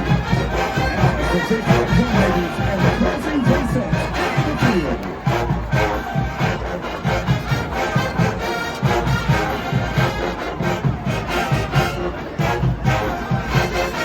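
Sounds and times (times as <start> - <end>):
marching band brass: 0.0 - 14.0
steady drum beat: 0.0 - 14.0.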